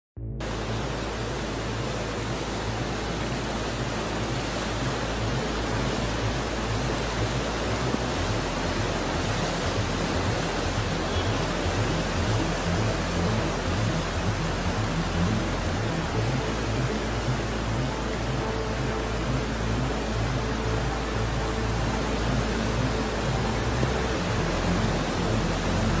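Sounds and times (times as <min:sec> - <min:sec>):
floodwater rushing: 0:00.4 - 0:26.0.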